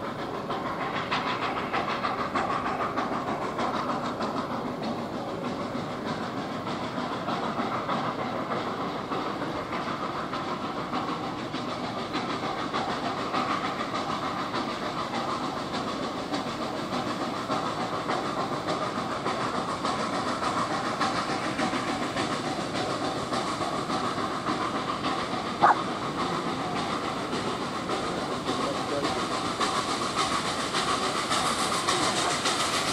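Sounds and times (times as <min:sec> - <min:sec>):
train running noise: 0:00.0 - 0:32.9.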